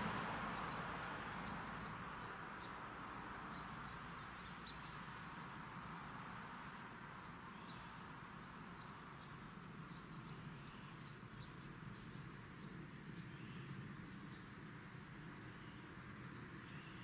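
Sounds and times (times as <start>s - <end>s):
outdoor ambience hiss: 0.0s - 17.0s.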